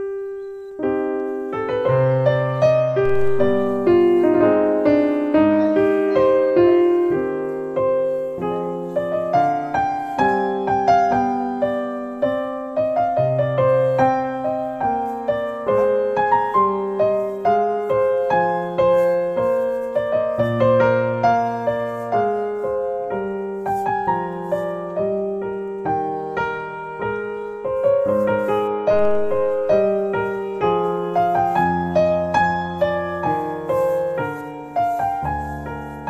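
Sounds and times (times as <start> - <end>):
gentle piano music: 0.0 - 36.0.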